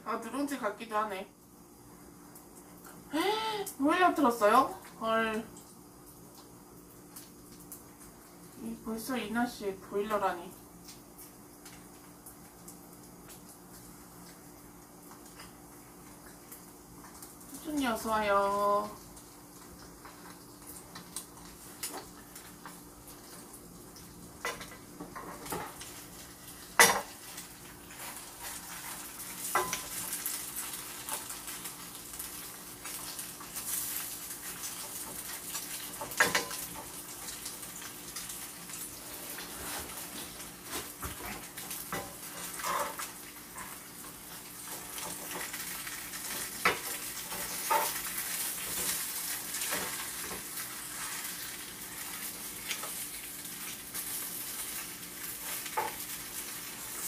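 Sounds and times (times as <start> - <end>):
cutlet sizzling in frying pan: 0.0 - 57.0.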